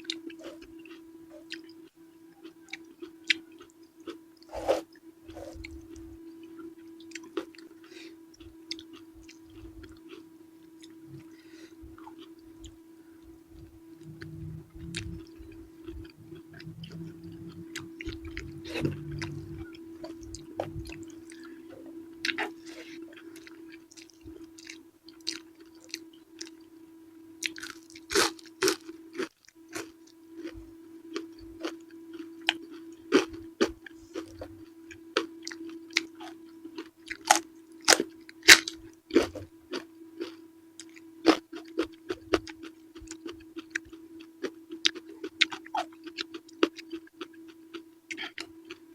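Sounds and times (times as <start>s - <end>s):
chewing with crisp crunches: 0.0s - 26.8s, 27.4s - 48.9s
steady low hum: 0.0s - 48.9s.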